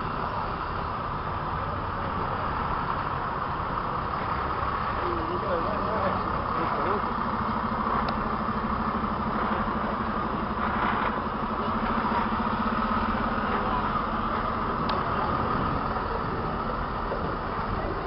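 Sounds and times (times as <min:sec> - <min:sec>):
truck diesel engine passing: 0:00.0 - 0:18.0.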